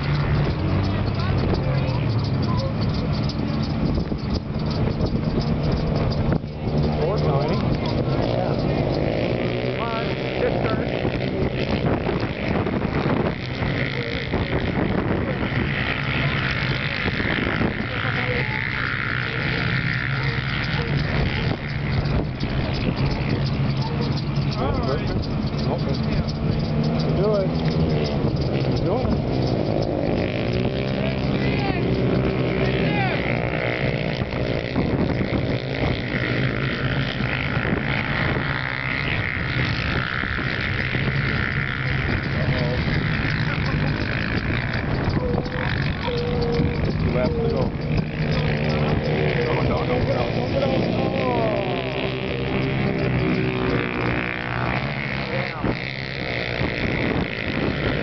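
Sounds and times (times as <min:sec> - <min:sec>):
quad engines racing past: 0:00.0 - 0:58.0.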